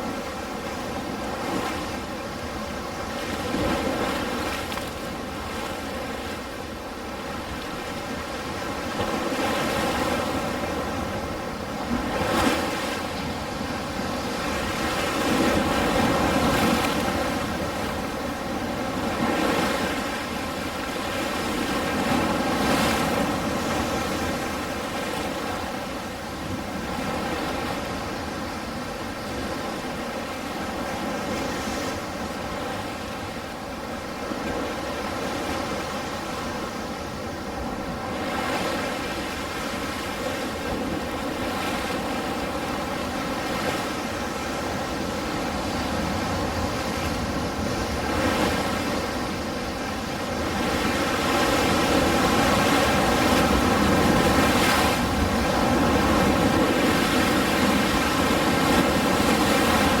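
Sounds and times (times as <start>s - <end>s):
ocean waves breaking: 0.0s - 60.0s.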